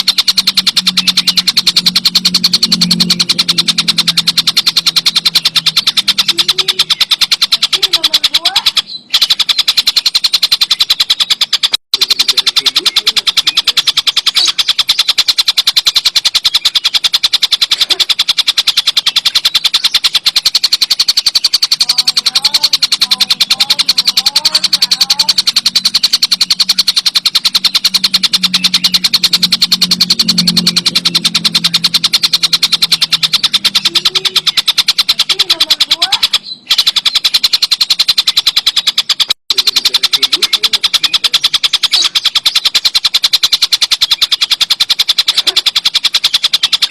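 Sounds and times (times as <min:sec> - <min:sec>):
kingfisher rattling trill: 0:00.0 - 0:46.9.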